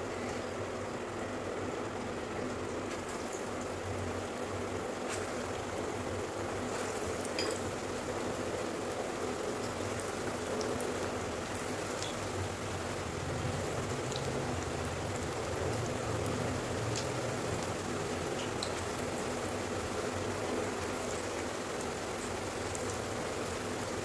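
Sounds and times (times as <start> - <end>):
small crackles of frying: 0.0 - 24.0
food sizzling in hot oil: 0.4 - 24.0.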